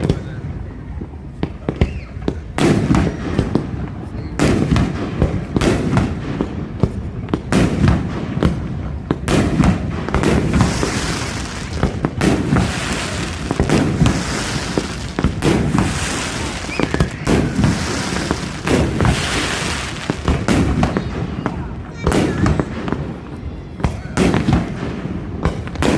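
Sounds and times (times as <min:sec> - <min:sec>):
fireworks banging: 0:00.0 - 0:25.9
fireworks crackling hiss: 0:00.0 - 0:25.9.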